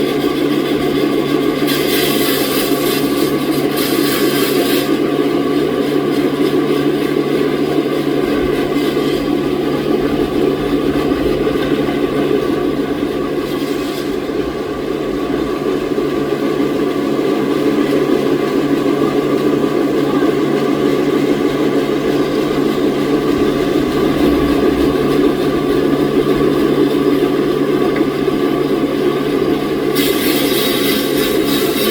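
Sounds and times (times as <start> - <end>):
sawmill machinery drone: 0.0 - 31.9.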